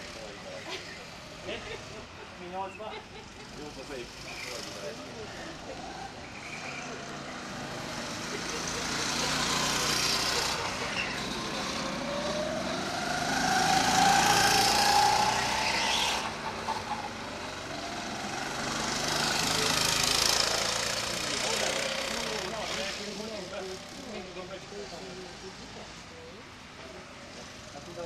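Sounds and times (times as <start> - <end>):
go-kart engine revving: 0.0 - 28.0.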